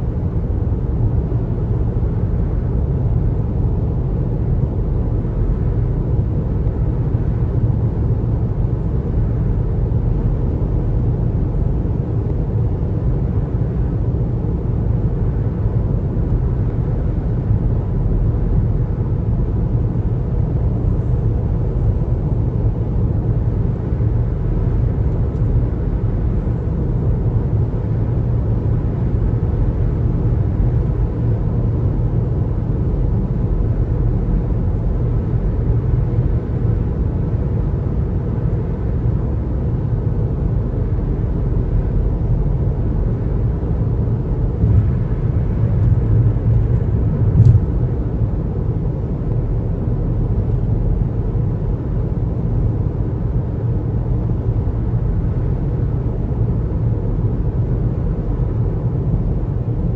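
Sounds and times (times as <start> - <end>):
car tyre and engine rumble: 0.1 - 59.8.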